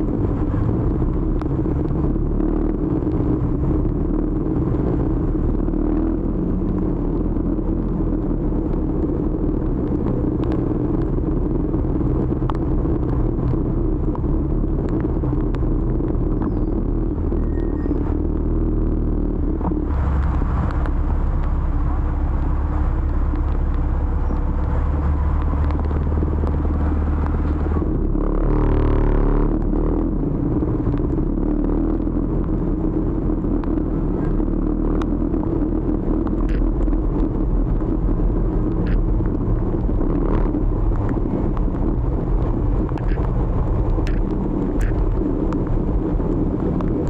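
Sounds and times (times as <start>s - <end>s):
road noise: 0.0s - 47.0s.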